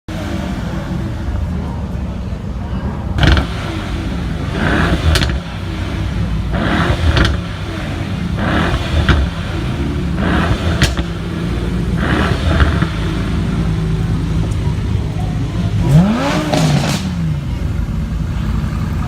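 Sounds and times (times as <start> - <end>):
car engine running hard: 0.1 - 19.0
exhaust crack: 3.1 - 19.0.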